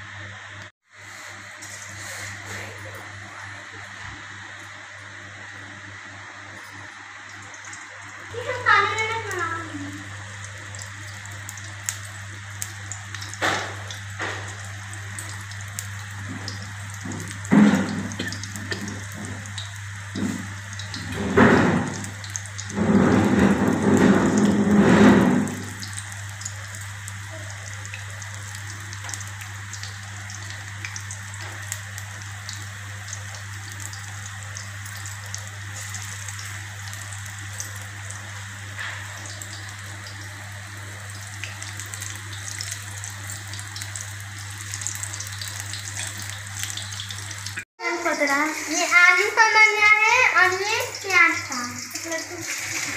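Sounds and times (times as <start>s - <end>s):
food deep-frying in oil: 0.8s - 52.9s.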